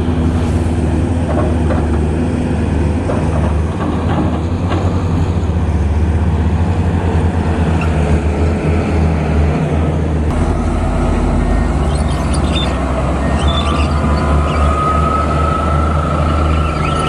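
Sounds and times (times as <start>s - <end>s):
excavator diesel engine droning: 0.0s - 17.0s.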